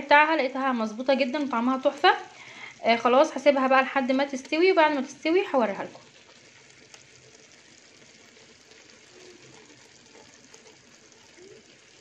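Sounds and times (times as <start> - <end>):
pot steaming and sizzling: 0.0 - 12.0.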